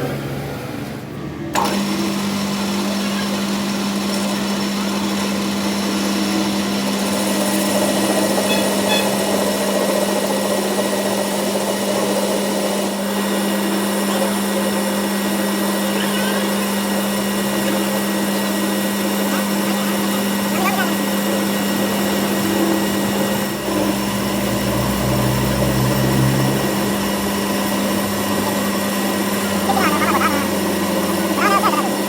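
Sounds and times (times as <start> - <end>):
machine motor humming: 1.5 - 32.0.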